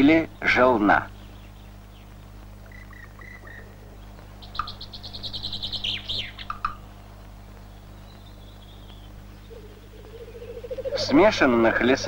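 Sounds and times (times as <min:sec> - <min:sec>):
woodpecker calling: 0:00.0 - 0:12.0.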